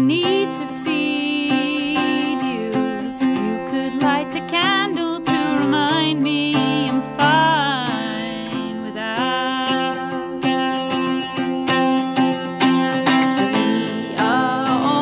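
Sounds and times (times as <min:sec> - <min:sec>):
electric guitar picked: 0:00.0 - 0:15.0
woman singing with vibrato: 0:00.0 - 0:15.0.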